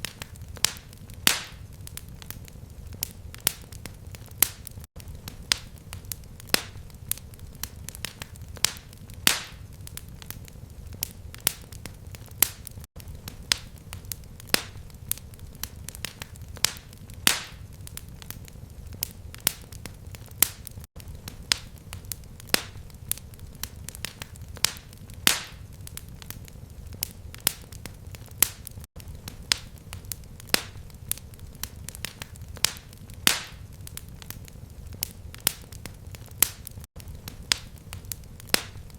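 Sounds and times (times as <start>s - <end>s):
fire crackling: 0.0s - 38.9s.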